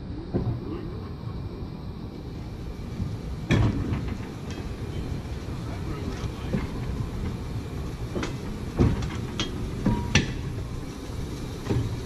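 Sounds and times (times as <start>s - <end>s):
streetcar wheels rumbling: 0.0s - 12.0s
wheels clanking over track joints: 2.2s - 12.0s.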